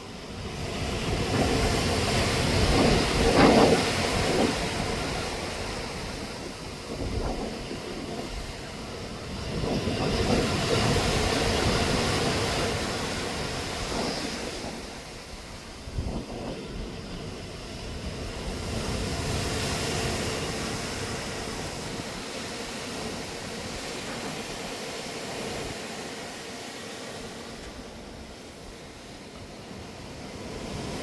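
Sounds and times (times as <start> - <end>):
sea waves: 0.0 - 31.0
wind: 0.0 - 31.0.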